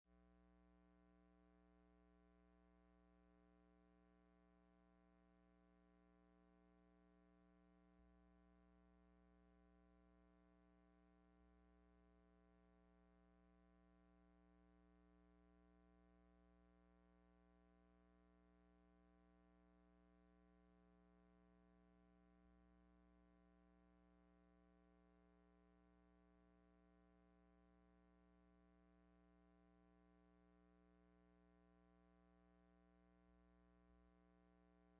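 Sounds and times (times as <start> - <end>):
faint steady hum: 0.1 - 34.9.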